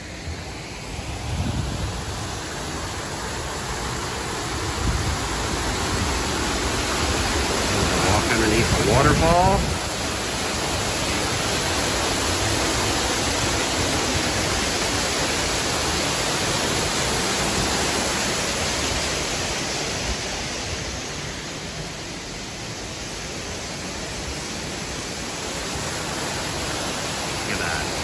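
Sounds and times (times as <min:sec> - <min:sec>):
waterfall pouring and splashing: 0:00.0 - 0:28.0.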